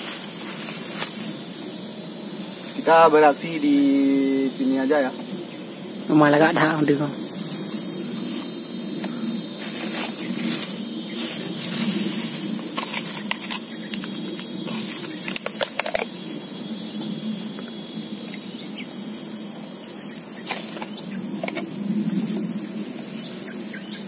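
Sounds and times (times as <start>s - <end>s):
high-pitched insect drone: 0.0s - 24.0s
leaves rustling: 0.0s - 24.0s.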